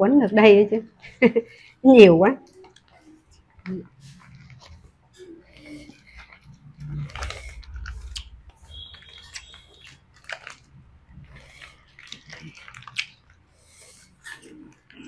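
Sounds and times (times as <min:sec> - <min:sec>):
chewing and mouth sounds: 0:02.4 - 0:15.0.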